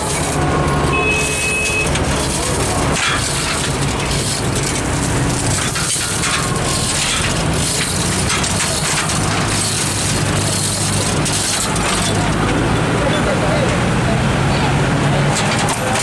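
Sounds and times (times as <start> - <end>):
heavy truck engine running: 0.0 - 16.0.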